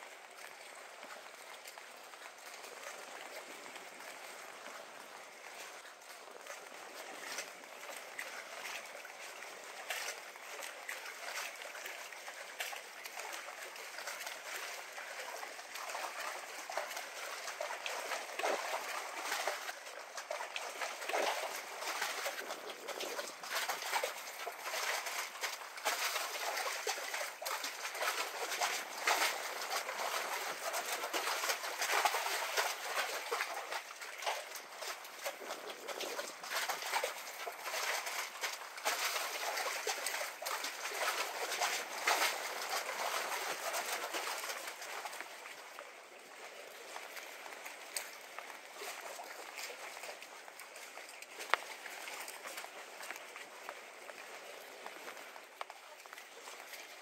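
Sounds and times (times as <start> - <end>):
water lapping against pilings: 0.0 - 57.0.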